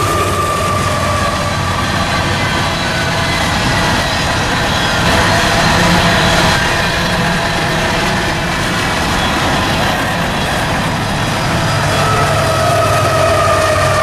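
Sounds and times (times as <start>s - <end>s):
freight cars rumbling and rattling: 0.0s - 14.0s
locomotive engine hum: 0.0s - 14.0s
steady whine: 0.0s - 14.0s.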